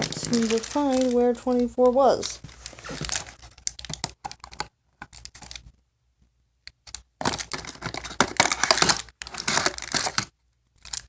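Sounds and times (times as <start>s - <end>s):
plastic wrappers crinkling: 0.0s - 5.7s, 7.2s - 11.0s.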